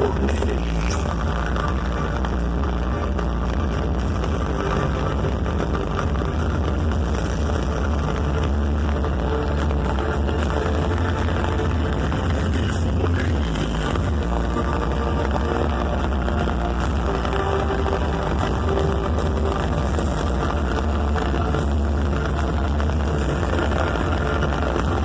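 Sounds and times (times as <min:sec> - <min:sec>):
loud music with heavy bass: 0:00.0 - 0:25.0.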